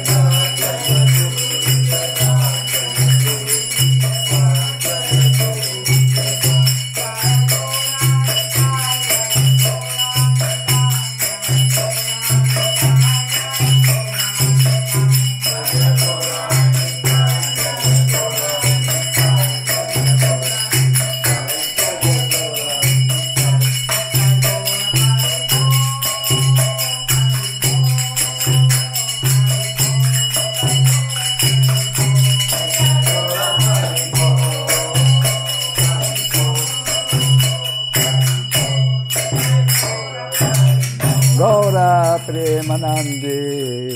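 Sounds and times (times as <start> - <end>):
hand cymbals ringing: 0.0 - 43.9
steady drum beat: 0.0 - 43.9
voices singing a devotional chant: 0.0 - 43.9.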